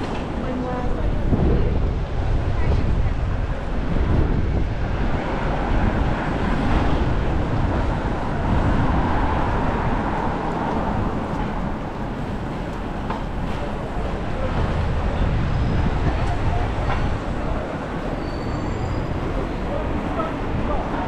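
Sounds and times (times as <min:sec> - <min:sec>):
passing traffic: 0:00.0 - 0:21.0
wind rush over microphone: 0:00.0 - 0:21.0.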